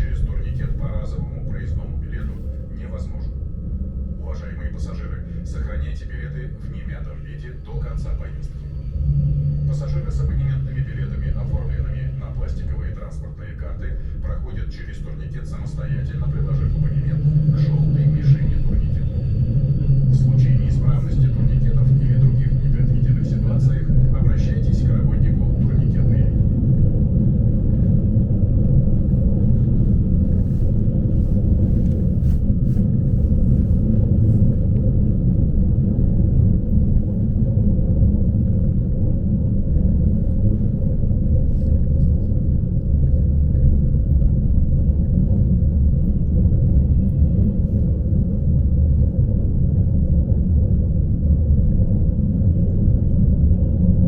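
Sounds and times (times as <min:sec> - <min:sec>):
train carriage rumble: 0:00.0 - 0:54.0.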